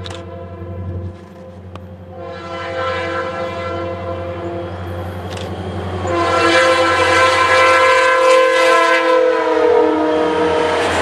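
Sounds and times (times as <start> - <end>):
train low rumble: 0.0 - 11.0
locomotive air horn chord: 0.1 - 10.7.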